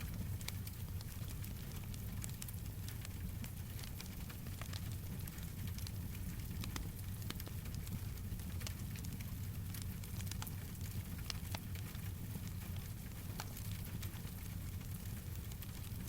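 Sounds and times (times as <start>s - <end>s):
wood fire popping: 0.0s - 16.0s.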